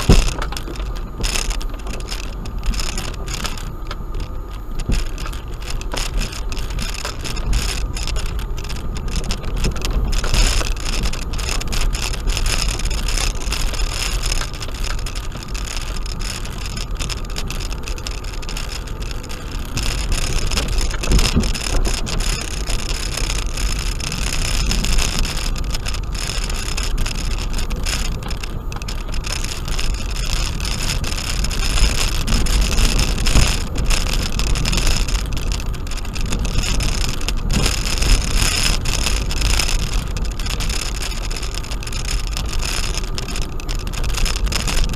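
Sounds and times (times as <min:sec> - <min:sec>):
car interior low rumble: 0:00.0 - 0:44.9
tyres crunching on gravel: 0:00.0 - 0:44.9.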